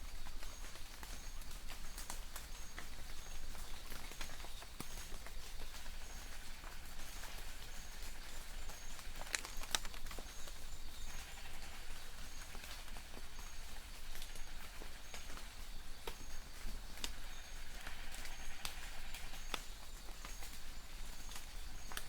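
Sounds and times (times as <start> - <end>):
light rain on leaves: 0.0 - 22.0
distant birds chirping: 0.1 - 22.0.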